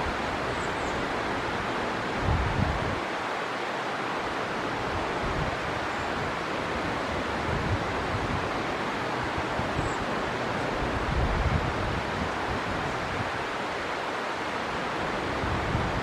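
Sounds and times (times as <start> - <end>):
wind gusts on microphone: 0.0 - 3.5, 4.2 - 16.0
river water flowing: 0.0 - 16.0.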